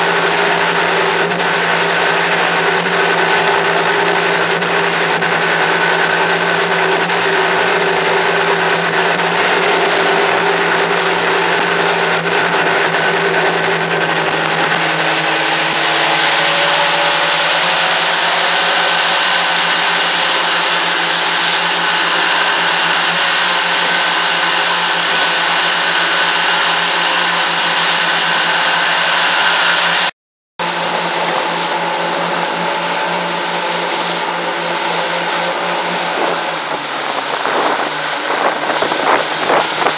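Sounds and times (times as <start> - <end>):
wind rushing: 0.0 - 30.0, 31.5 - 39.9
churning water: 0.0 - 39.9
outboard motors droning: 0.0 - 39.9.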